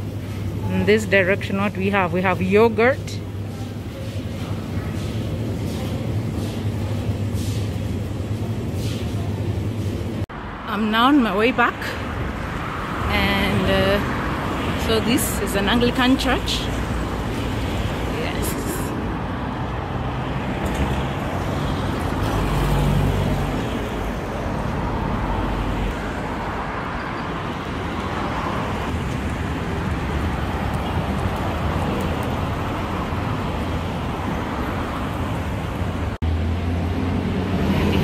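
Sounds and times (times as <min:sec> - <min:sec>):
cars driving past: 0:02.8 - 0:38.0.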